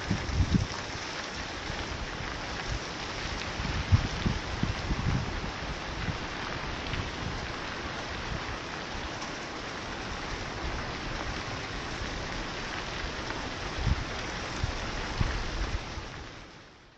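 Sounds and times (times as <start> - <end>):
waterfall splashing down rock: 0.0 - 16.5.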